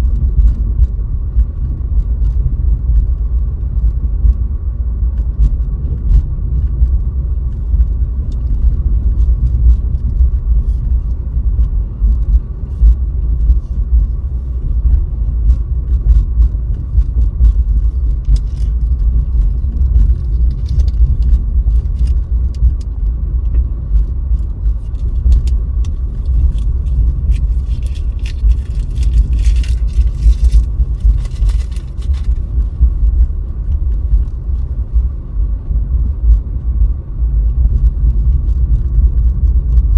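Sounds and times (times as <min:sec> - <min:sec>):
car driving on snowy road: 0:00.0 - 0:39.9.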